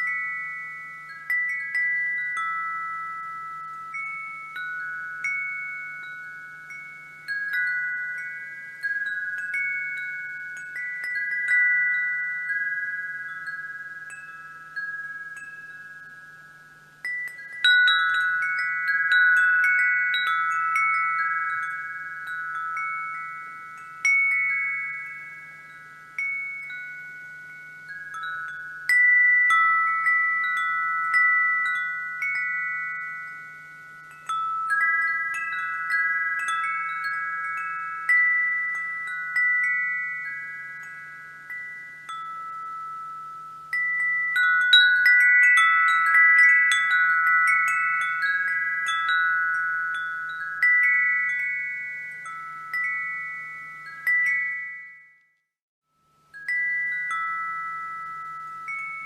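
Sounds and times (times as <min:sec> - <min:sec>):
wind chimes ringing: 0:00.0 - 0:59.0.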